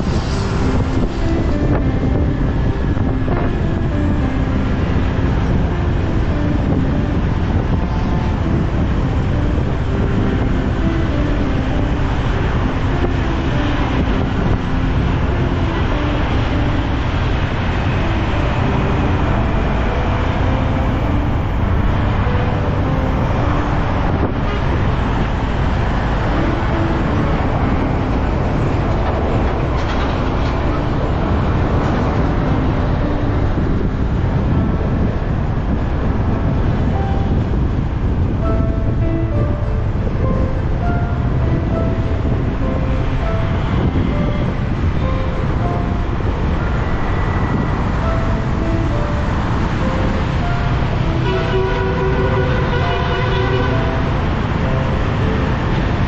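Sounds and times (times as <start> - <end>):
road and traffic noise: 0.0 - 56.0
wind rush on microphone: 0.0 - 56.0.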